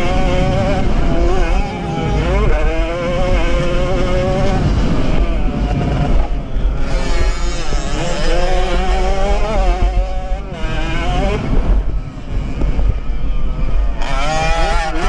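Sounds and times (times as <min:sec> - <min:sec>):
two-stroke racing engine revving: 0:00.0 - 0:11.9, 0:13.9 - 0:15.0
low wind rumble: 0:00.0 - 0:15.0.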